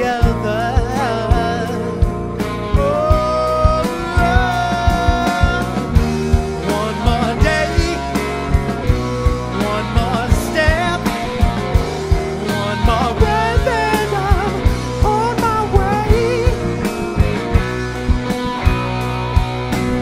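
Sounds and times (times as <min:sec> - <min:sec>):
man singing: 0:00.0 - 0:17.6
rock band playing live: 0:00.0 - 0:20.0.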